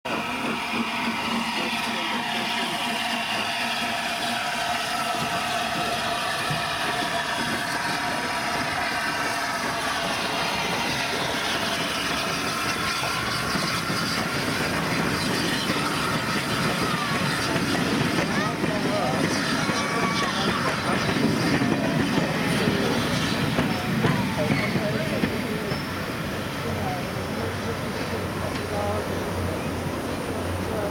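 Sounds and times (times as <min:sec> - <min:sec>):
steam locomotive working slowly: 0:00.1 - 0:30.9
voices: 0:00.2 - 0:30.9.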